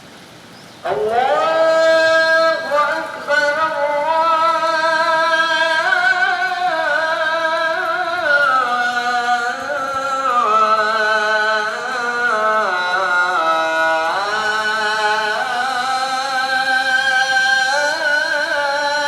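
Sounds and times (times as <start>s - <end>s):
person singing long held notes: 0.8s - 19.0s.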